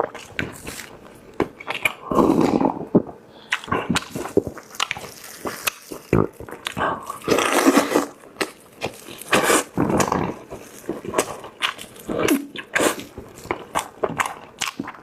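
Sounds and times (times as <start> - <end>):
person chewing and lip-smacking: 0.0 - 15.0.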